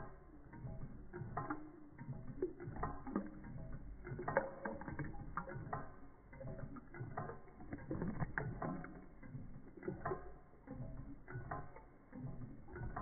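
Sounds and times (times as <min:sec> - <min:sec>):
mechanical clicking and clattering: 0:00.0 - 0:13.0.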